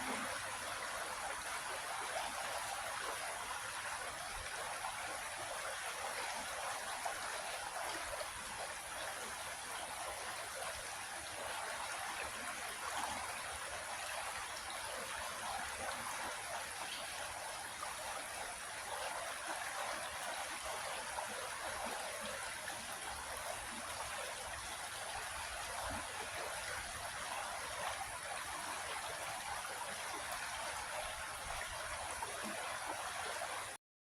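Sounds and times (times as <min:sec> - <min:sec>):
creek water flowing over rocks: 0:00.0 - 0:33.8.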